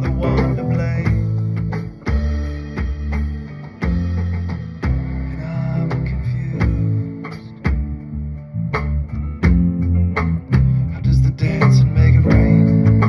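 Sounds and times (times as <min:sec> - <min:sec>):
bass guitar: 0:00.0 - 0:13.0.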